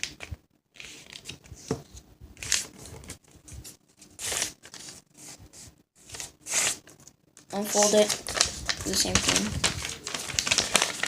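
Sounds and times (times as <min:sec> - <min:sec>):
paper being folded and creased: 0:00.0 - 0:01.7, 0:02.4 - 0:11.0.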